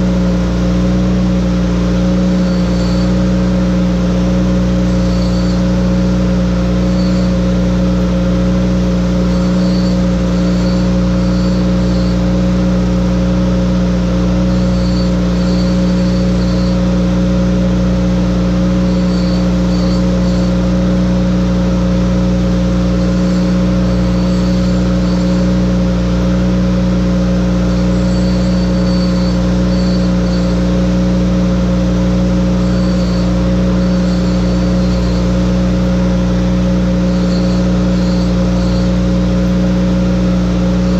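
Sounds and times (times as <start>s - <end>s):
grinder motor humming: 0.0s - 40.9s.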